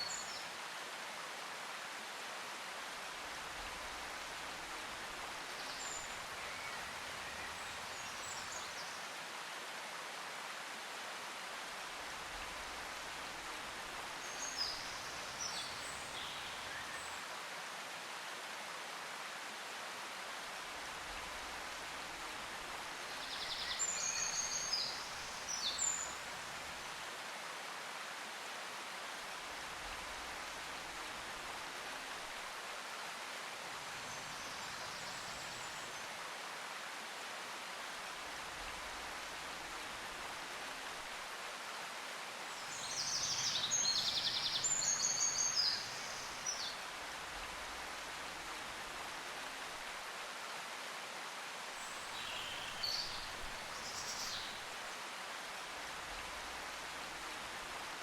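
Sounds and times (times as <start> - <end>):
steady outdoor hiss: 0.0 - 58.0.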